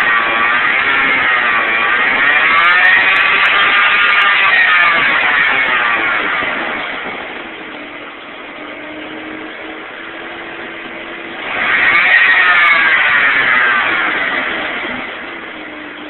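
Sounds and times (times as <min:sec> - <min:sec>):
car engine running: 0:00.0 - 0:16.0
power steering pump buzzing: 0:00.0 - 0:16.0.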